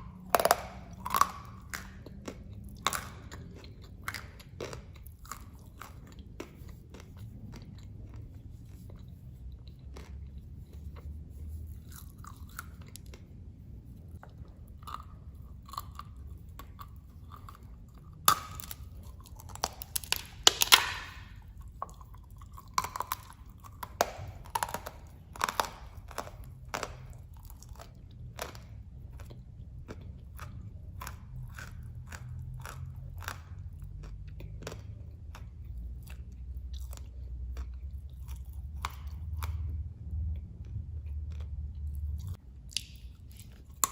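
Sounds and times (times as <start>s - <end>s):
clay blocks crunching when chewed: 0.0s - 43.9s.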